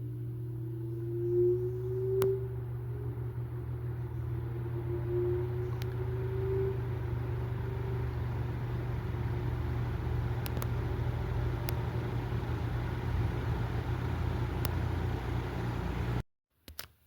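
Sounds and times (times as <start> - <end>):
box fan humming: 0.0 - 16.2.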